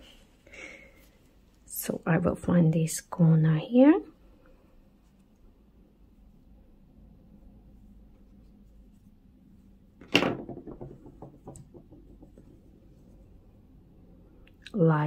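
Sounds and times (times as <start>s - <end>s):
faint yarn handling: 0.0s - 15.0s.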